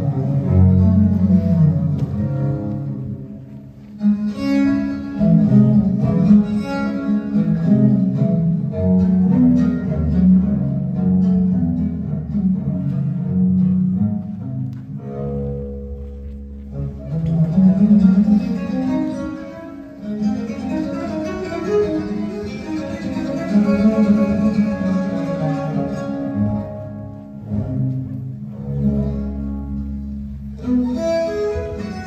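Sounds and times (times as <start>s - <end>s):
bowed and plucked strings music: 0.0s - 32.0s.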